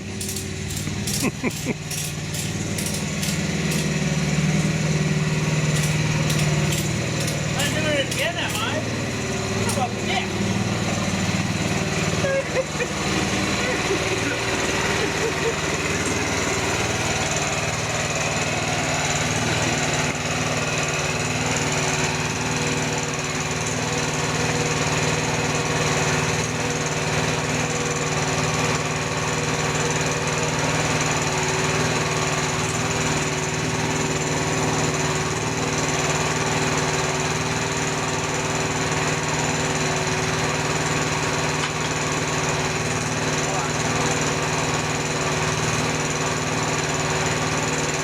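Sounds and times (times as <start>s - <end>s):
small engine running steadily: 0.0s - 48.0s.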